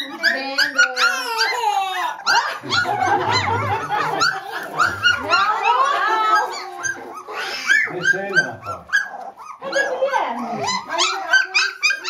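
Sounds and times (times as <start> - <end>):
puppies whining and yipping: 0.0 - 12.0.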